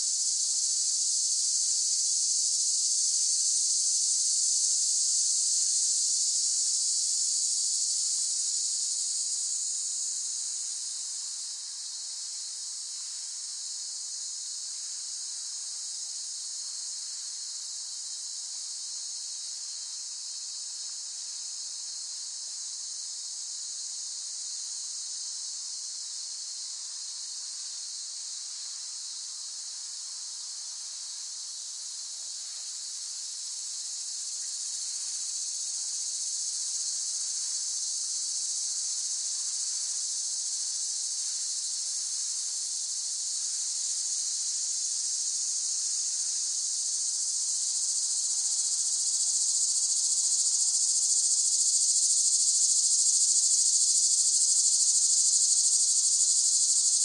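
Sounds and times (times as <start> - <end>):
cicadas buzzing chorus: 0.0 - 57.0.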